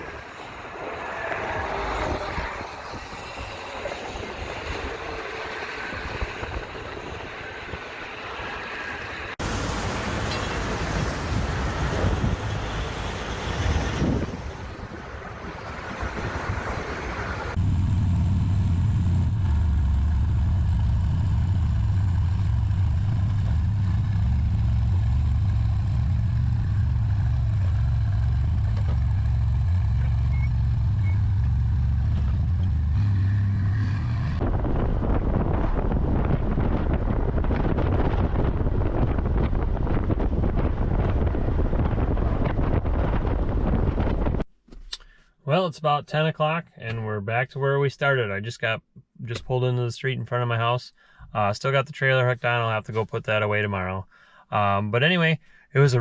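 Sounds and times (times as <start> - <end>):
low drone of engine and tyres: 0.0 - 45.0
road and wind noise: 0.0 - 45.1.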